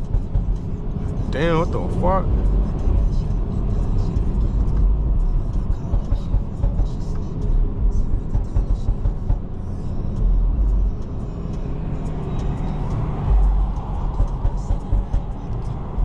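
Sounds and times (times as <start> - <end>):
engine and road noise rumble: 0.0 - 16.0.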